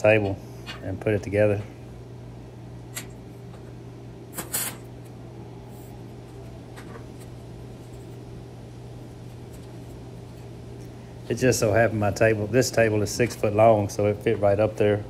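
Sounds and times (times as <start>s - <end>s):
shop equipment humming: 0.0s - 15.0s.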